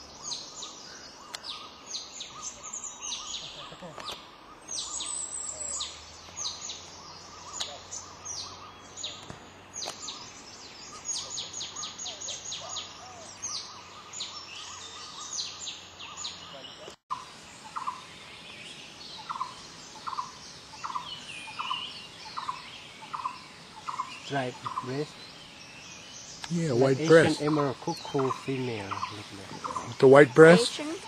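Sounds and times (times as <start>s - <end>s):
faint high bird calls: 0.0s - 31.0s.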